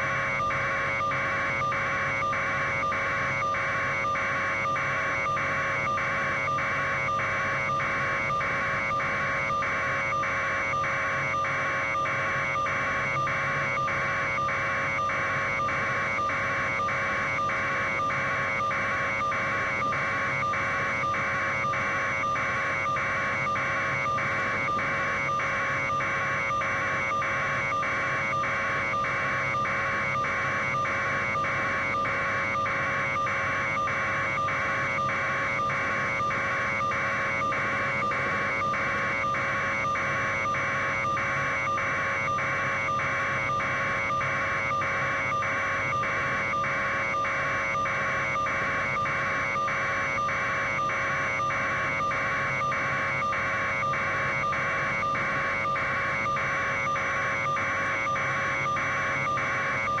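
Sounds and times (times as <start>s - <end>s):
constant hum: 0.0s - 60.0s.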